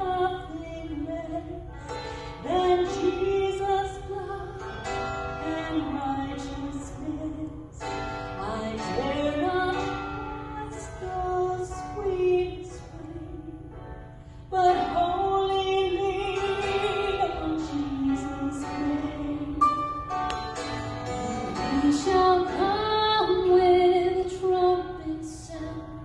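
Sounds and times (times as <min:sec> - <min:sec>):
woman singing into a microphone: 0:00.0 - 0:20.0, 0:21.1 - 0:26.0
instrumental accompaniment: 0:00.0 - 0:25.2.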